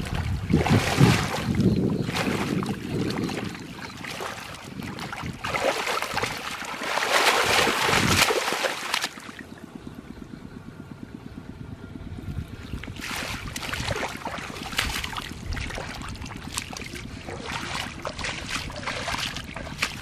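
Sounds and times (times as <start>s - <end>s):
hands splashing in muddy water: 0.0s - 9.4s, 12.9s - 20.0s.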